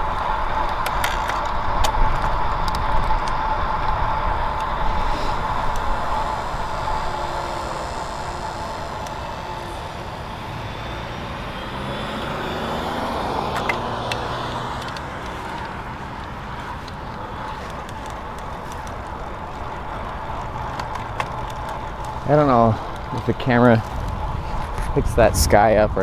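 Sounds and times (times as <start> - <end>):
wind and road noise: 0.0 - 26.0
sharp ticks: 0.1 - 10.2, 13.5 - 25.8
vehicle passing by: 3.4 - 26.0.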